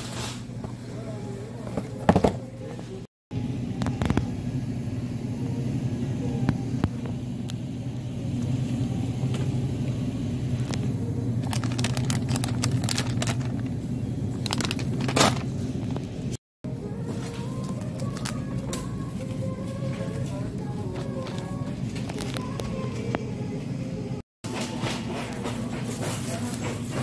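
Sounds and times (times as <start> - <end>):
supermarket background hum: 0.0 - 27.0.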